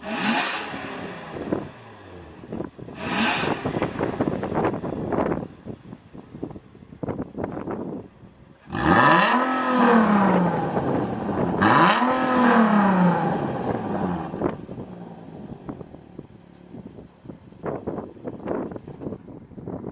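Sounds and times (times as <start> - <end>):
car engine idling and revving: 0.0 - 19.9.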